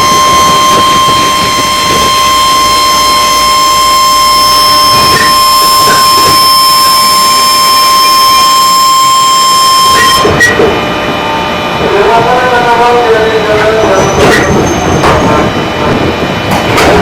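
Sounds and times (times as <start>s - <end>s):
electric train high-pitched whine: 0.0s - 17.0s.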